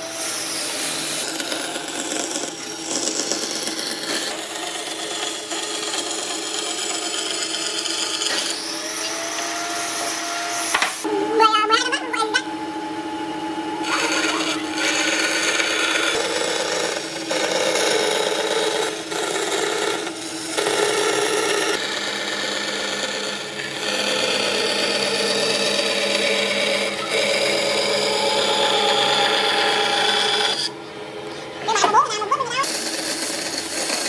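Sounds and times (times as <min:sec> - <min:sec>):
abrasive tool grinding wood: 0:00.0 - 0:11.0, 0:13.8 - 0:30.8, 0:32.4 - 0:34.0.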